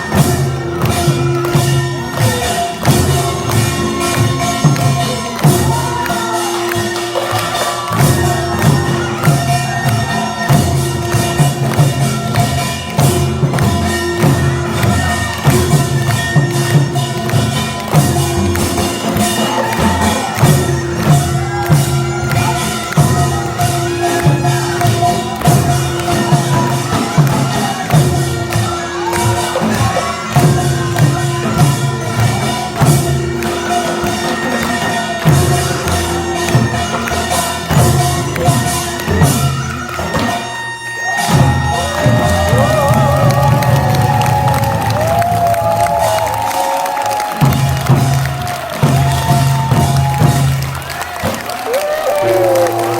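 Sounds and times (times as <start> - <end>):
drums beating: 0.0 - 52.9.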